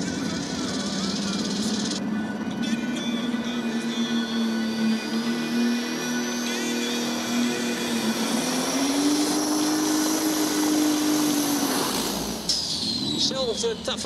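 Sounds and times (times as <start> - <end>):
pulling tractor engines revving high: 0.0 - 14.0.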